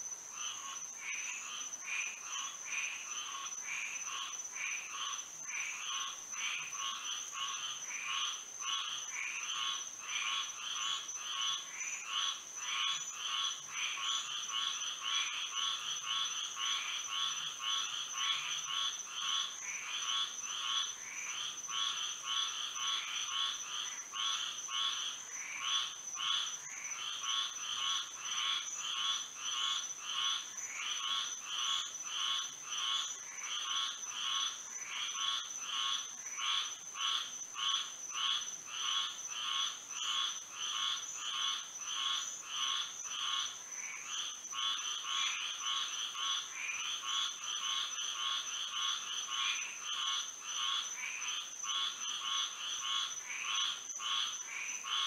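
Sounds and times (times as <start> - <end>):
frogs calling: 0.3 - 55.0.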